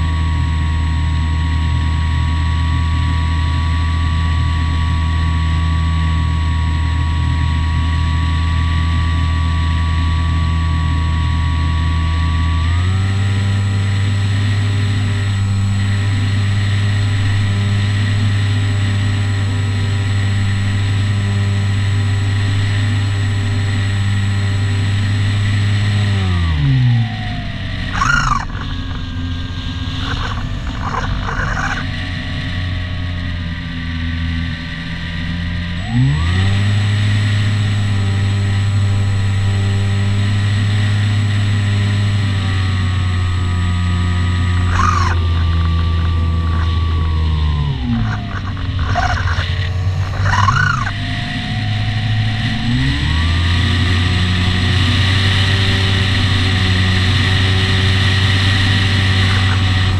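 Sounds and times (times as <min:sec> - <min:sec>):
model plane electric motor and propeller: 0:00.0 - 0:59.9.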